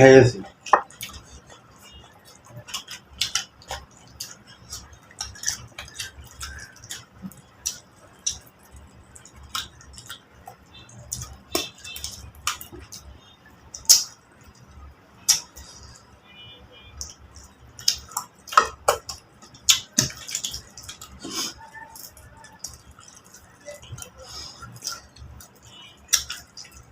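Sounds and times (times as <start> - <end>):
people chewing: 0.4 - 26.9.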